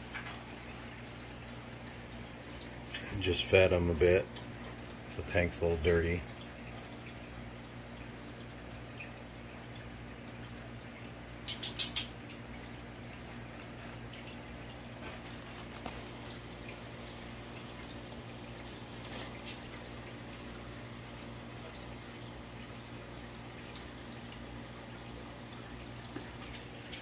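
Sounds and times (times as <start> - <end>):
aquarium filter hum: 0.0 - 27.0
water trickling: 0.0 - 27.0.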